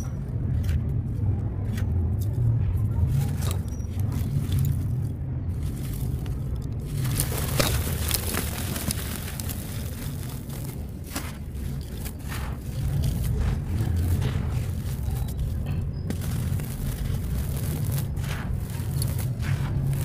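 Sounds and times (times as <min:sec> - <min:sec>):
steady low rumble: 0:00.0 - 0:20.0
sand blocks crumbling by hand: 0:03.0 - 0:20.0.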